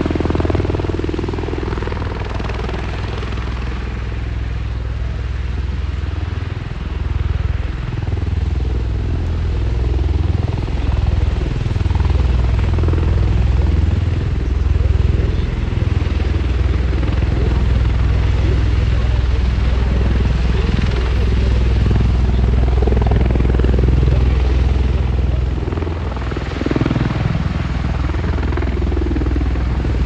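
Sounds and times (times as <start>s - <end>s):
aircraft rotors throbbing: 0.0s - 30.0s.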